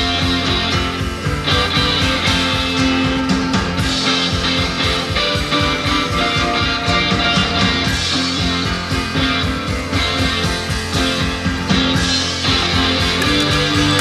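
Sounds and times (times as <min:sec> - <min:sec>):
rock music with guitar: 0:00.0 - 0:14.0.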